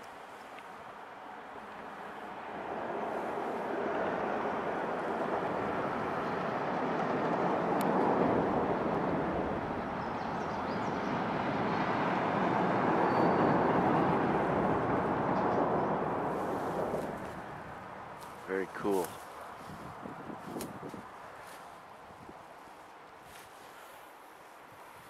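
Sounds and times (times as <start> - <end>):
traffic rushing over bridge: 0.8 - 22.3.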